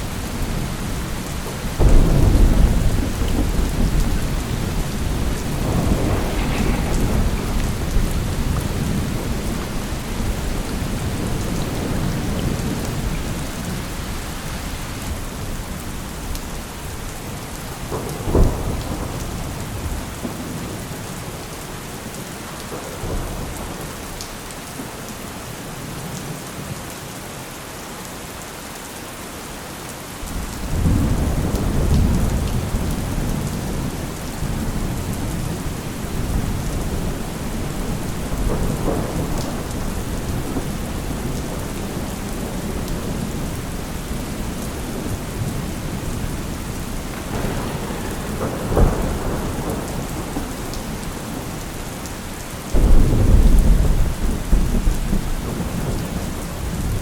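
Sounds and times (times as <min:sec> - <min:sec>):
thunder crack and rumble: 0:00.0 - 0:24.2, 0:30.2 - 0:57.0
steady rain: 0:00.0 - 0:57.0.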